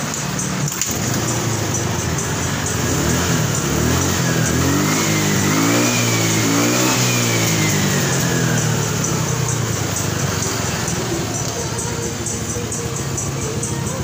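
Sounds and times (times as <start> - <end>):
high engine whine: 0.0 - 14.0
scooter engine revving: 0.0 - 14.0.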